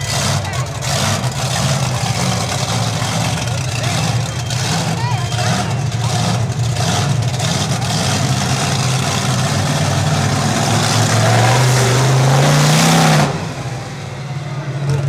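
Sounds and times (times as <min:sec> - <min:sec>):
truck engine running and revving: 0:00.0 - 0:15.0.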